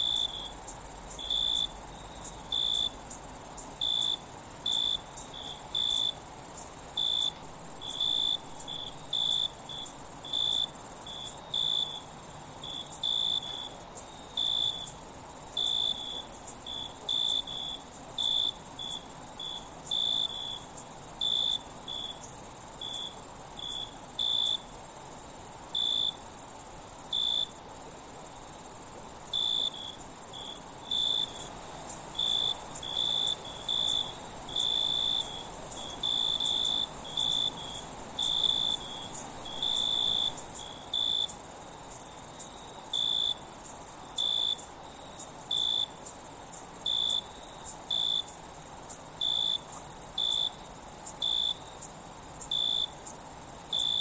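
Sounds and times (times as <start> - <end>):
cricket chirping: 0.0 - 54.0
high-pitched insect trill: 0.0 - 54.0.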